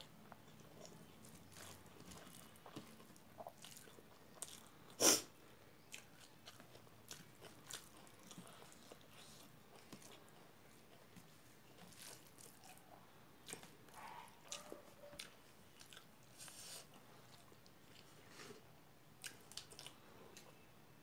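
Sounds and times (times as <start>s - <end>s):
chewing with crunches: 0.0s - 20.7s.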